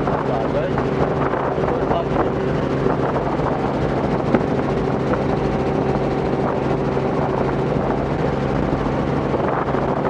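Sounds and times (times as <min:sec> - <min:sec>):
helicopter engine and rotors droning: 0:00.0 - 0:10.0.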